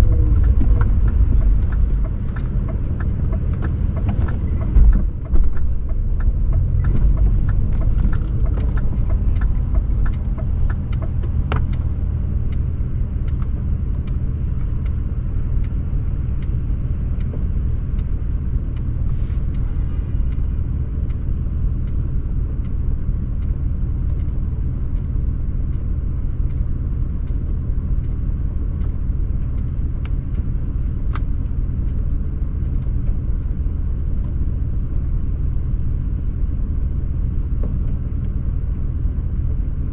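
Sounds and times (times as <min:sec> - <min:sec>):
faint clicks and ticks: 0:00.0 - 0:35.4
car engine droning: 0:00.0 - 0:39.9.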